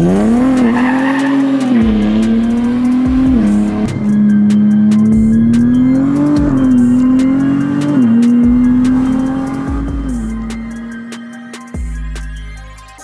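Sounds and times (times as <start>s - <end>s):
car engine revving high: 0.0s - 12.9s
electronic music with bass: 0.0s - 13.0s.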